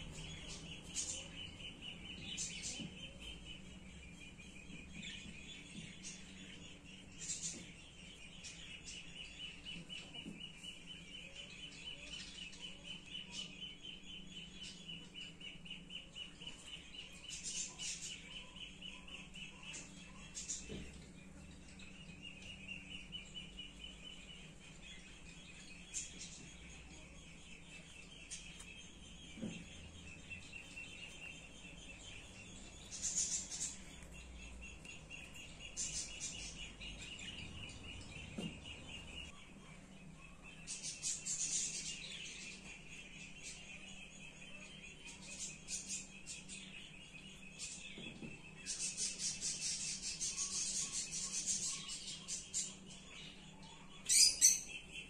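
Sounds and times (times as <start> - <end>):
faint low hum: 0.0 - 55.0
small birds chirping: 0.0 - 55.0.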